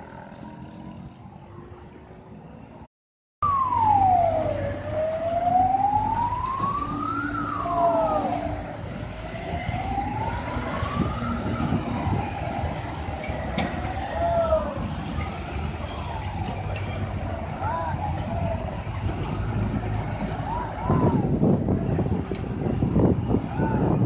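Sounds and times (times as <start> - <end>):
truck engines rumbling: 0.0 - 24.0
second siren: 0.1 - 24.0
siren wailing: 3.4 - 24.0.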